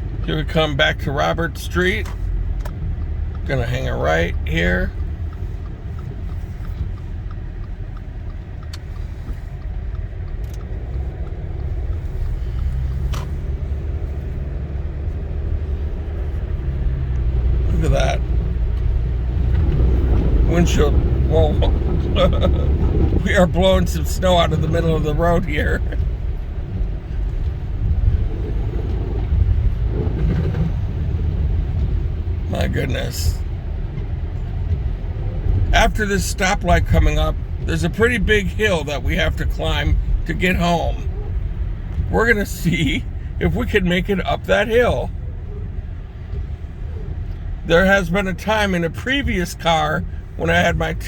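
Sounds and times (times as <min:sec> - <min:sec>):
car engine and tyre rumble: 0:00.0 - 0:51.0
turn signal ticking: 0:00.0 - 0:51.0.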